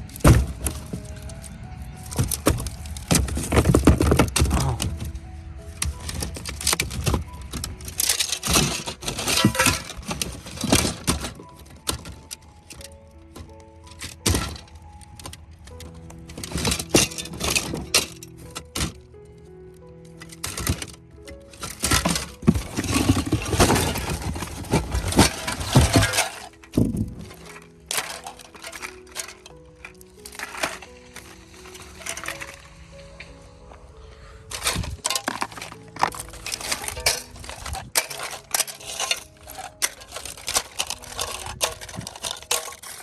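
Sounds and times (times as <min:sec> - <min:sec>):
broken glass crunching and clinking: 0:00.0 - 0:33.3, 0:34.4 - 0:43.0
small hard objects clicking: 0:00.0 - 0:33.3, 0:34.4 - 0:43.0
faint held musical notes: 0:00.0 - 0:43.0.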